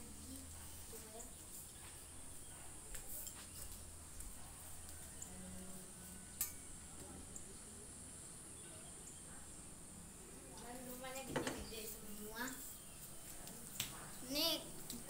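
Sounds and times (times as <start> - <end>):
faint distant voices: 0.0 - 15.0.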